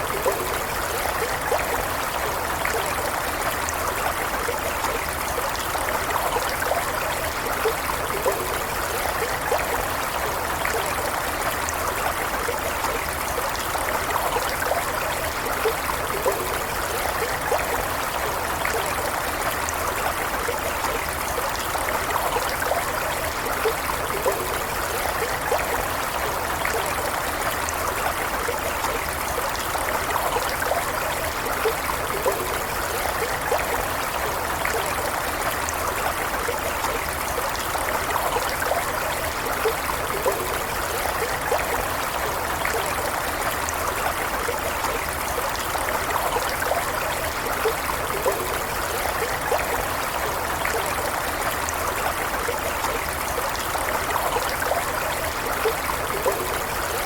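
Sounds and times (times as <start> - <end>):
stream water trickling: 0.0 - 57.0
water gurgles and splashes: 0.0 - 57.0.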